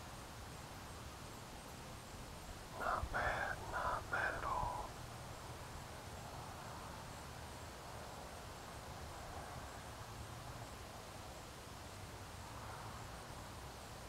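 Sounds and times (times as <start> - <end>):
outdoor background low hum: 0.0 - 14.0.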